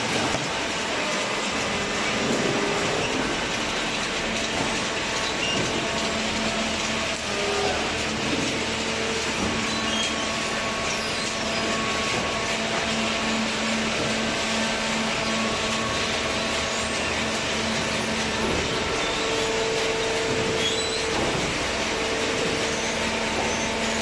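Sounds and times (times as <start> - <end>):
conveyor and baler machine noise: 0.0 - 24.0
steady machine hum: 0.0 - 24.0.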